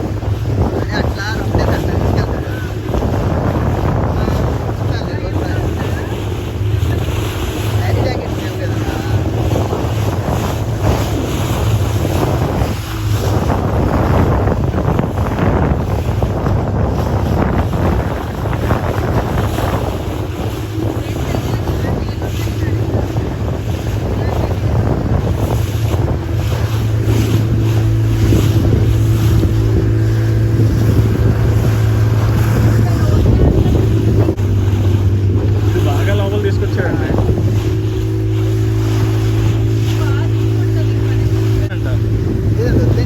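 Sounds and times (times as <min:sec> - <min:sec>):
motorboat engine drone: 0:00.0 - 0:43.0
water rushing past hull: 0:00.0 - 0:43.0
wind buffeting microphone: 0:00.0 - 0:43.0.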